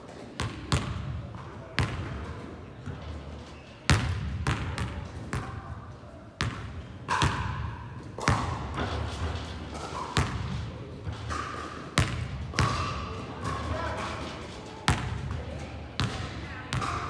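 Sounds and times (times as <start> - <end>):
basketball bouncing on hall floor: 0.4 - 3.2, 3.9 - 5.7, 6.4 - 14.0, 14.9 - 17.0.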